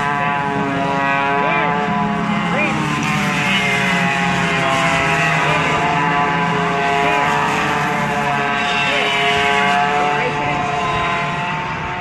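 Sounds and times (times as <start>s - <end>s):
go-kart engines: 0.0s - 12.0s.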